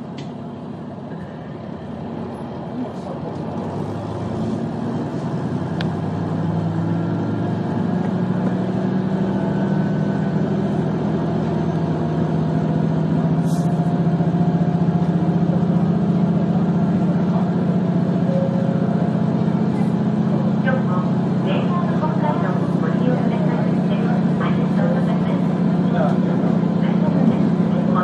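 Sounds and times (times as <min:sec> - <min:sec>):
railcar diesel engine humming: 0:00.0 - 0:28.0.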